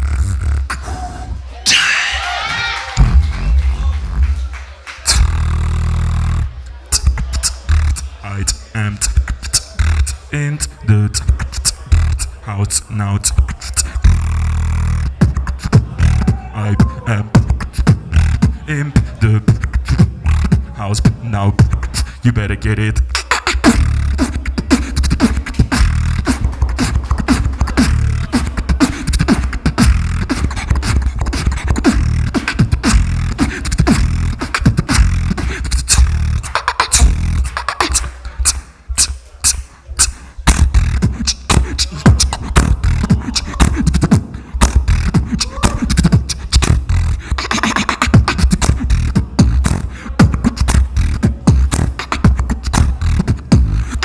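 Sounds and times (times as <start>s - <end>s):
deep bass: 0.0s - 2.0s, 2.9s - 54.0s
beatboxing into microphone: 0.0s - 54.0s.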